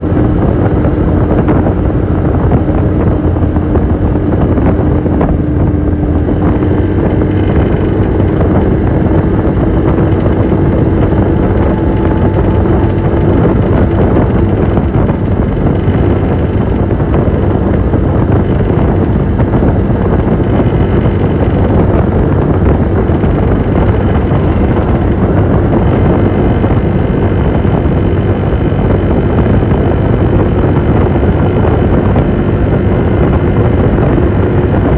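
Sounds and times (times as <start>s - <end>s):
scooter engine rattling: 0.0s - 34.9s
steady hum: 0.0s - 34.9s.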